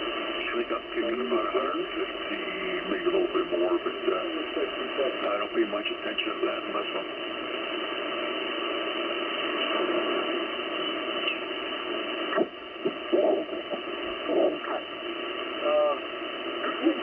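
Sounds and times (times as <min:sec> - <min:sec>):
radio signal bursts: 0:00.0 - 0:17.0
radio static hiss: 0:00.0 - 0:17.0.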